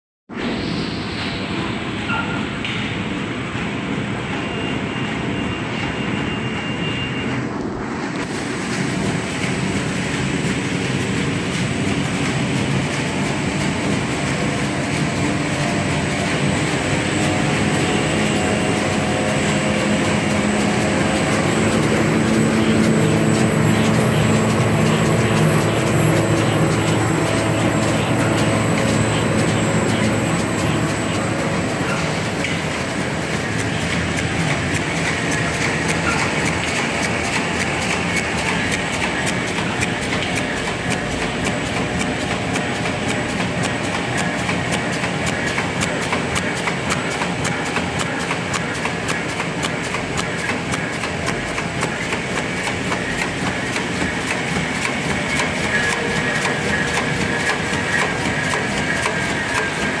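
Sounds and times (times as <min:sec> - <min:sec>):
machine clattering: 0:02.3 - 1:00.0.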